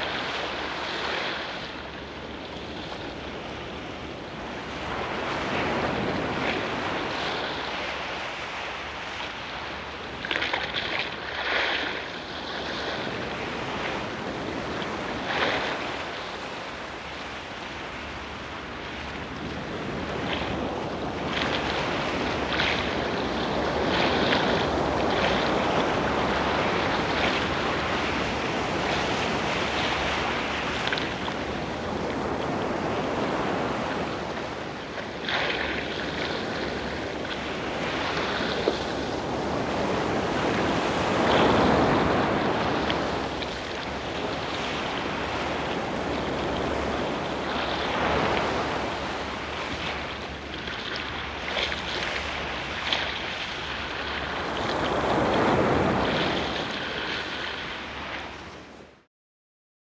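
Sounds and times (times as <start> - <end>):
sea waves washing in: 0.0 - 59.1.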